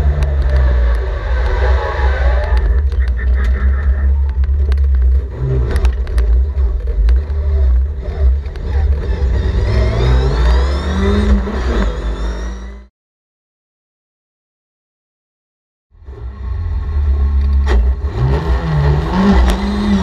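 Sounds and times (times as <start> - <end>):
race car engine accelerating: 0.0 - 12.9, 16.0 - 20.0.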